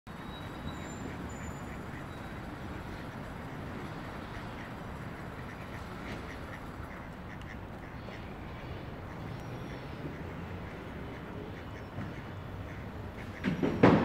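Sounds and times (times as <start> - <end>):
ducks quacking: 0.2 - 14.0.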